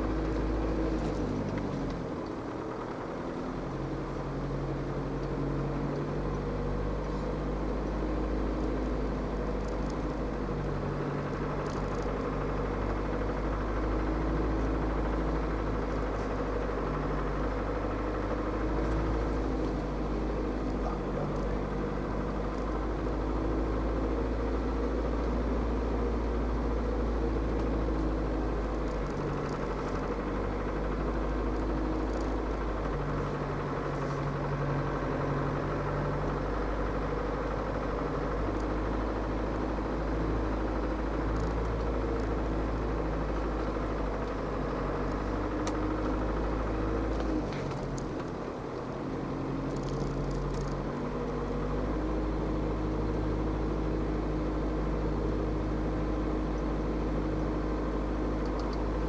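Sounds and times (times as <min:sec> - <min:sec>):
diesel engine running at low revs: 0:00.0 - 0:59.0.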